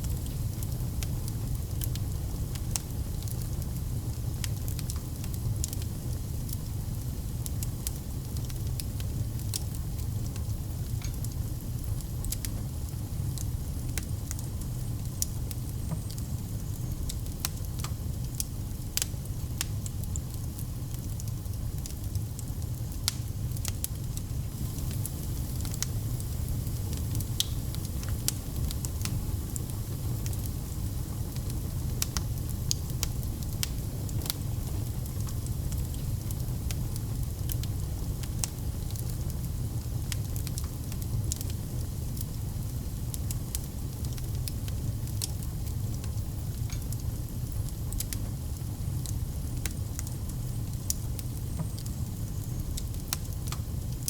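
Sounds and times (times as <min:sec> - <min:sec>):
fire crackling in fireplace: 0:00.0 - 0:54.0.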